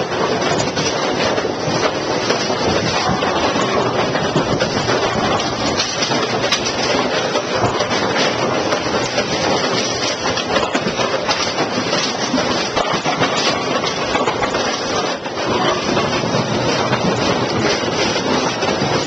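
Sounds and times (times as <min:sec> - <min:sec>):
mechanical clatter of pinsetters: 0:00.0 - 0:19.0.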